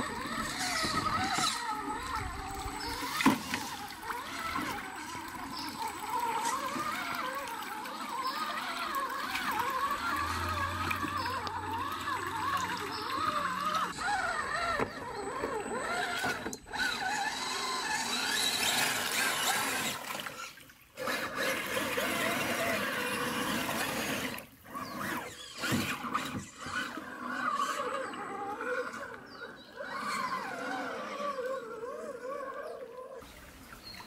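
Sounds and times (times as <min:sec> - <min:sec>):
toy car electric motor whining: 0:00.0 - 0:33.3
water splashing and trickling: 0:00.0 - 0:34.0.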